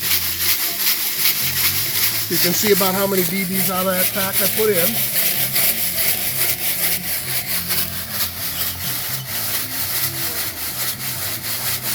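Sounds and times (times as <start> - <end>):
bbs rattling in metal tank: 0.0 - 11.9.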